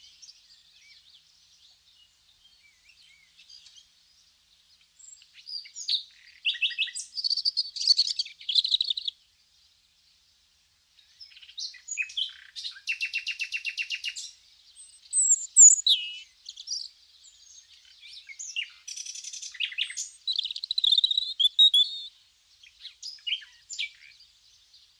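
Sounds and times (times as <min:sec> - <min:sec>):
songbirds chirping and trilling: 0:00.0 - 0:24.9.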